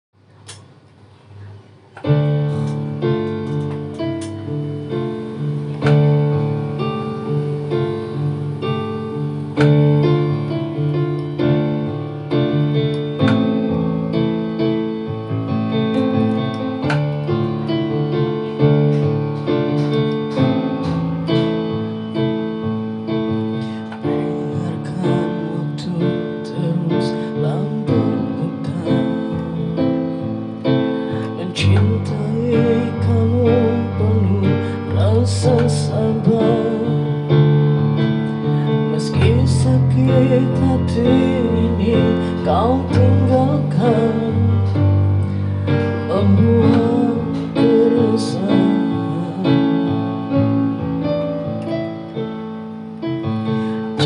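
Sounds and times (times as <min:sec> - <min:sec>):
electronic keyboard piano chords: 0:00.2 - 0:54.0.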